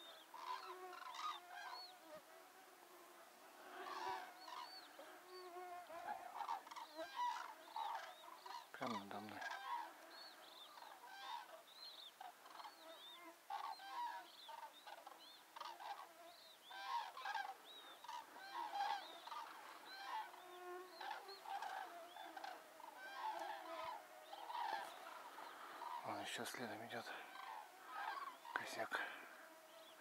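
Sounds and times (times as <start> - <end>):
cranes trumpeting calls: 0.0 - 2.0, 3.6 - 5.1, 5.9 - 30.0.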